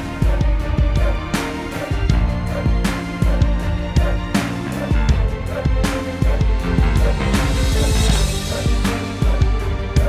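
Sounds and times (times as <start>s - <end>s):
background music with drums and bass: 0.0s - 10.0s.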